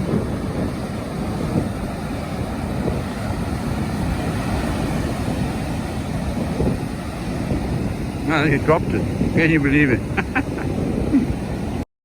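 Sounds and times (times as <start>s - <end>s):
surf breaking: 0.0s - 11.8s
wind buffeting microphone: 0.0s - 11.8s.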